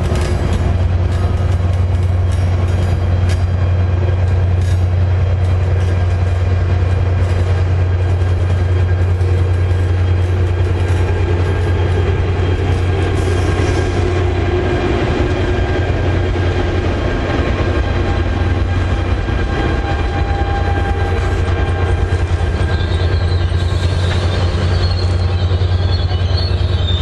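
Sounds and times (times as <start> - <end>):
locomotive engine drone: 0.0 - 27.0.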